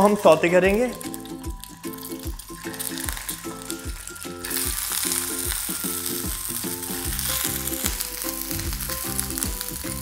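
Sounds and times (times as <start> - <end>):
background music: 0.0 - 10.0
eggs sizzling in oil: 0.0 - 10.0.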